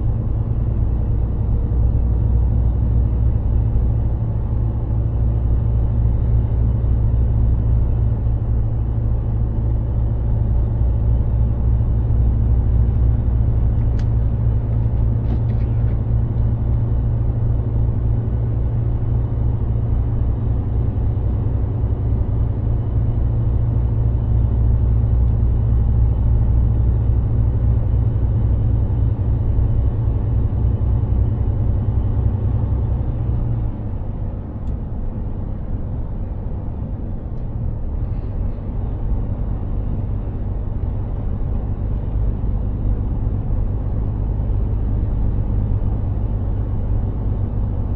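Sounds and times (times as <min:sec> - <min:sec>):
road noise: 0:00.0 - 0:47.9
truck diesel engine droning: 0:00.0 - 0:47.9.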